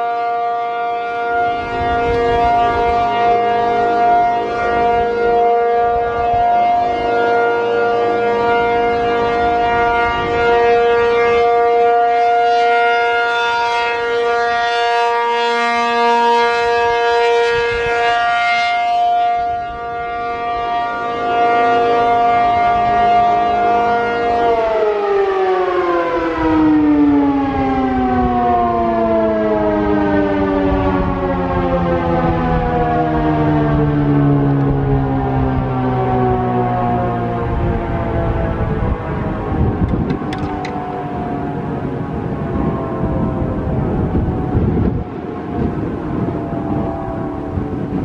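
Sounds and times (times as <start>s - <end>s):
warning siren tone: 0.0s - 48.0s.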